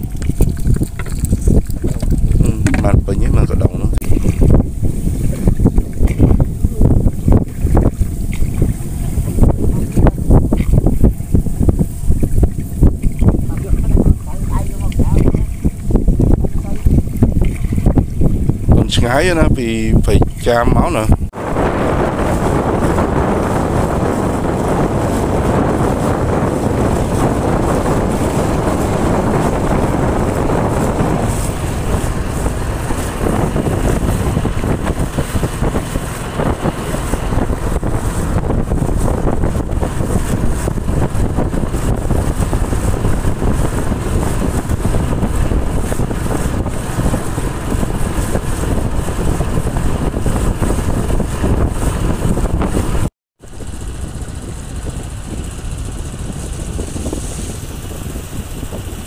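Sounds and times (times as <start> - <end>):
boat engine running: 0.0 - 59.0
moving water: 0.0 - 59.0
wind rumble on microphone: 0.0 - 59.0.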